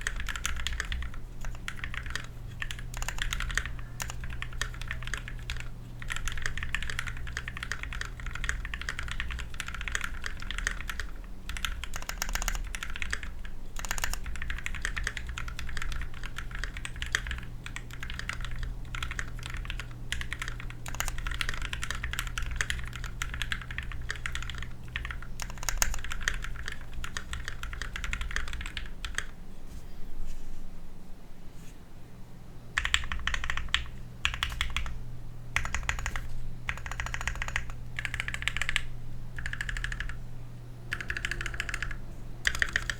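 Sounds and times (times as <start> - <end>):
typing on mechanical keyboard: 0.0 - 29.4, 32.8 - 35.0, 35.6 - 40.2, 40.9 - 42.9.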